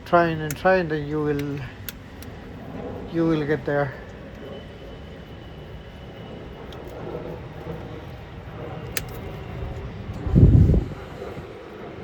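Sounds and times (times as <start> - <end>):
distant engine rumble: 0.0 - 12.0
faint high whine: 0.0 - 12.0.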